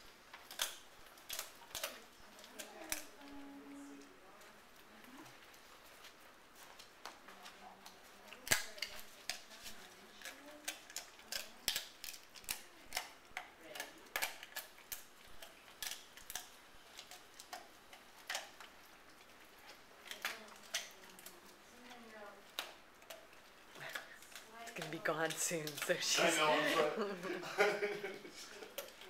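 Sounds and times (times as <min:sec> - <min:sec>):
dog gnawing and crunching chew: 0:00.0 - 0:27.0, 0:28.3 - 0:29.0.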